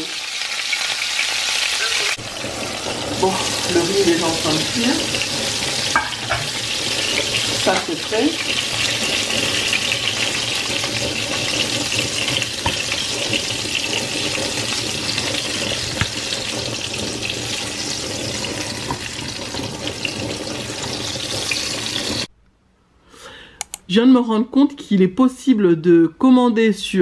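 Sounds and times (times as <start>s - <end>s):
skewers sizzling in hot oil: 0.0s - 22.3s.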